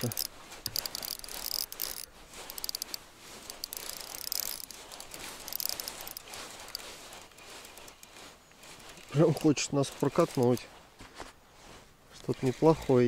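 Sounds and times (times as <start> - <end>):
fishing reel ratcheting: 0.0 - 10.7.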